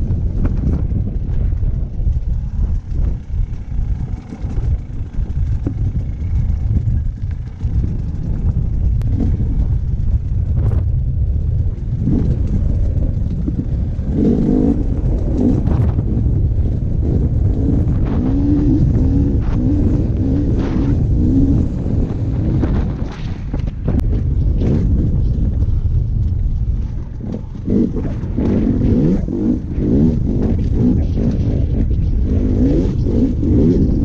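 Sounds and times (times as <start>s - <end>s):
dirt bike engine revving: 0.0s - 25.8s, 26.8s - 34.0s.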